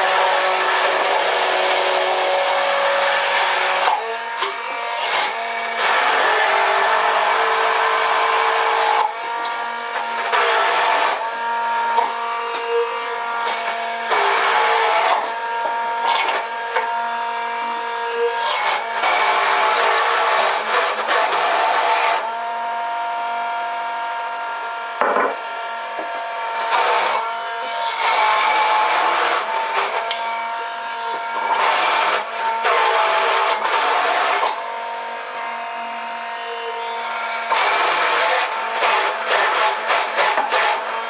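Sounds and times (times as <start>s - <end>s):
immersion blender motor running: 0.0s - 41.0s.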